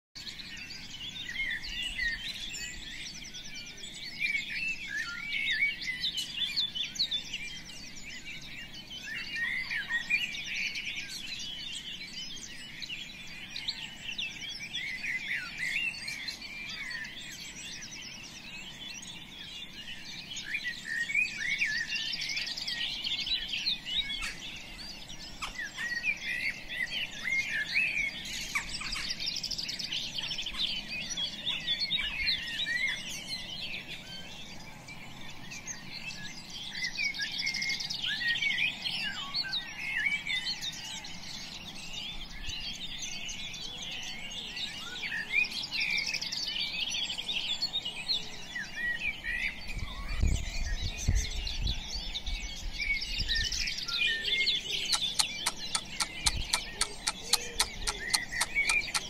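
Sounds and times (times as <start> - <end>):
birds chirping and twittering: 0.2 - 59.0.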